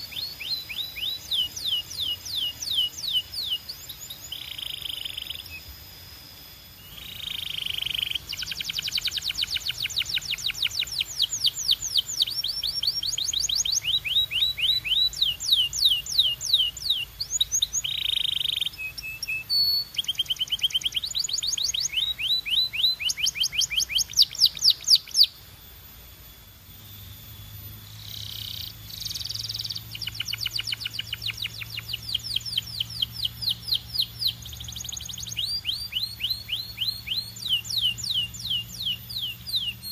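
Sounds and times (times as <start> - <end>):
canary singing trills: 0.0 - 6.0, 6.6 - 25.4, 26.8 - 39.9.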